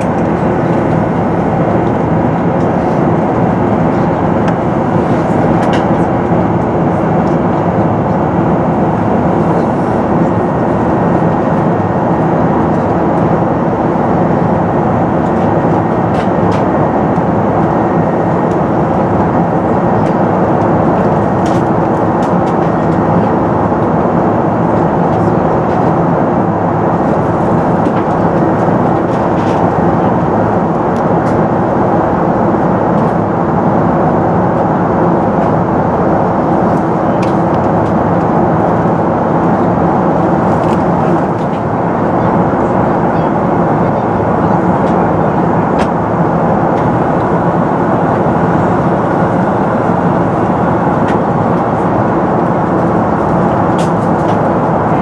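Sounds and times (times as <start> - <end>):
airflow rush in cabin: 0.0 - 55.0
jet engine hum: 0.0 - 55.0.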